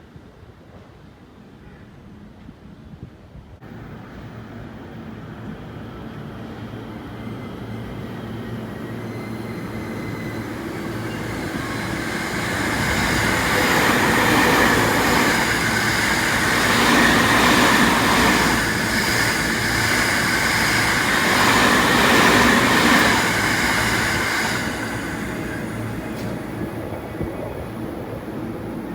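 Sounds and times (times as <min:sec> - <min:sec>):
electric train passing: 0:03.6 - 0:28.9
steady whining tones: 0:03.7 - 0:28.9
wheel-on-rail noise: 0:05.5 - 0:28.9.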